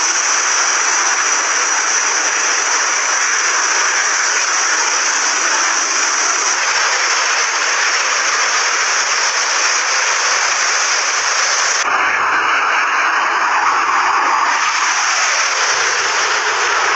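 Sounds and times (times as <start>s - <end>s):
fighter jet engine roar: 0.0s - 16.9s.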